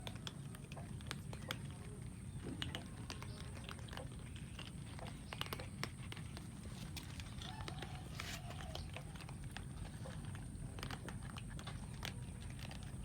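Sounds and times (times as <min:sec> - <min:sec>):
cats crunching food: 0:00.0 - 0:13.0.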